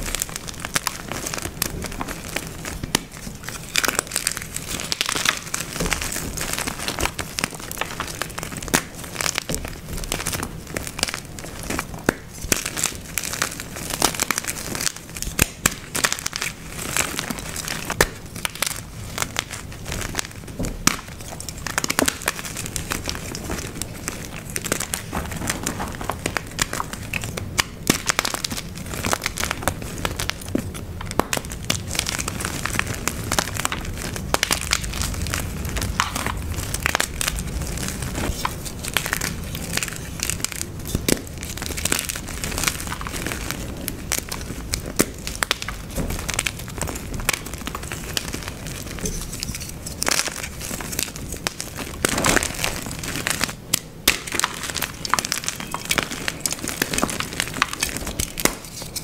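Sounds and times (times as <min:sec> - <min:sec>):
chalk blocks crunching: 0:00.0 - 0:59.0.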